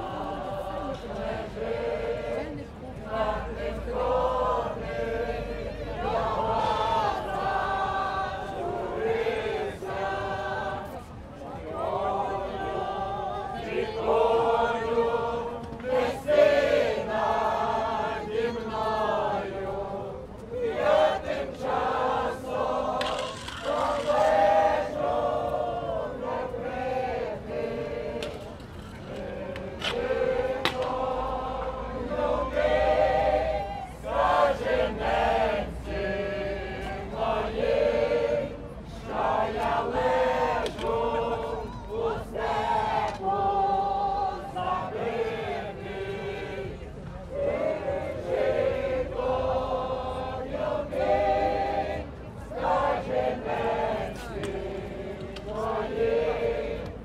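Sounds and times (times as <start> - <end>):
group of people singing: 0.0 - 57.0.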